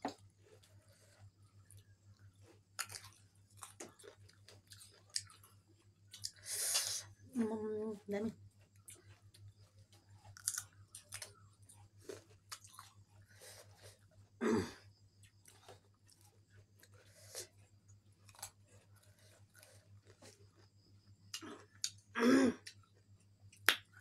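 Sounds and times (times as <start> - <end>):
person chewing food: 0.0 - 7.1, 8.5 - 24.0
faint steady hum: 0.0 - 24.0.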